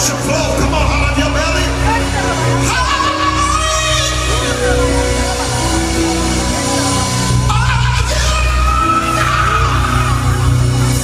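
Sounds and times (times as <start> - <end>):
gospel band playing: 0.0 - 11.0
singers performing: 0.0 - 11.0
steady bass line: 0.0 - 11.0.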